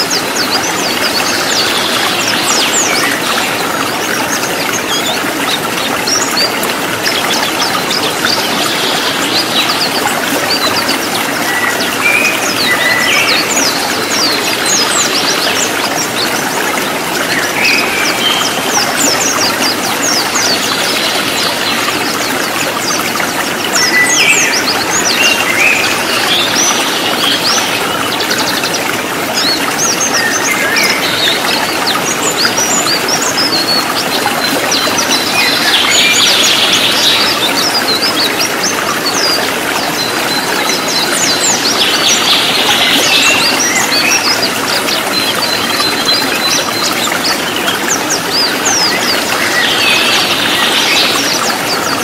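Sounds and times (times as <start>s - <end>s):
birds twittering chirps: 0.0s - 52.0s
running water: 0.0s - 52.0s.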